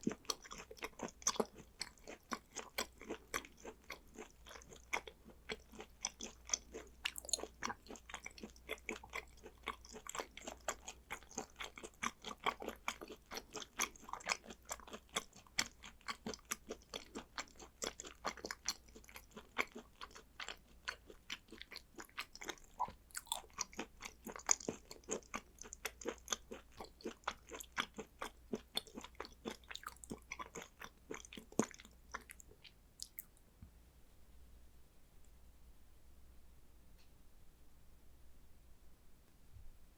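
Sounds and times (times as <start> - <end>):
close-up chewing with mouth smacks: 0.0 - 33.4.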